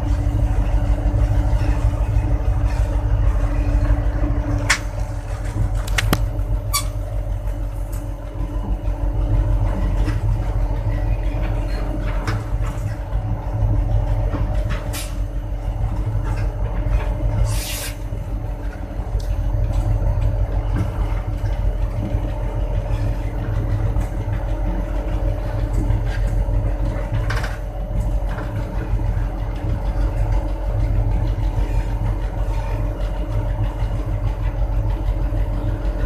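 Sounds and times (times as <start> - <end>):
diesel locomotive engine rumbling: 0.0 - 36.0.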